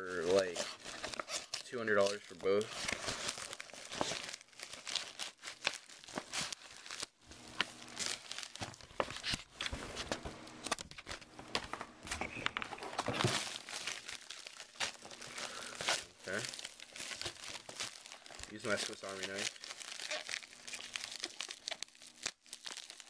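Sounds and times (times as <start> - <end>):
envelope tearing and crinkling: 0.0 - 23.0.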